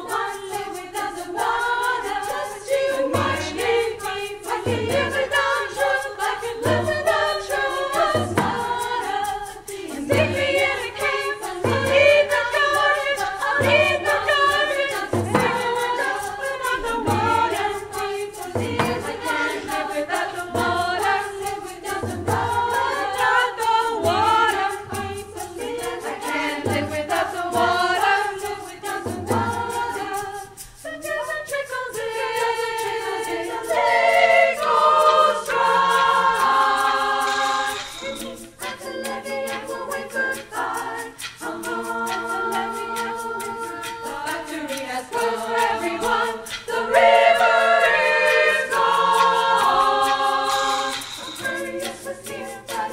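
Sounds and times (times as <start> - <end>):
frame drum beat: 0.0 - 31.3, 31.9 - 52.9
women's choir singing: 0.0 - 52.9.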